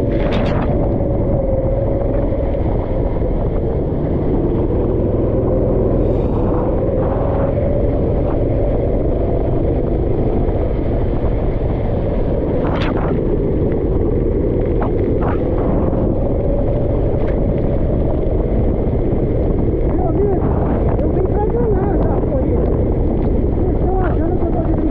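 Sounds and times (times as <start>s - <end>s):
heavy low rumble: 0.0s - 24.9s.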